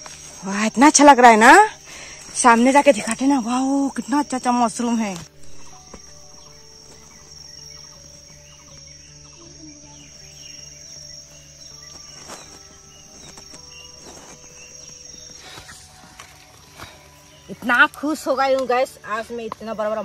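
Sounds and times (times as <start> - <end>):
faint bird chirps: 0.0 - 18.2
insects droning: 0.0 - 20.0.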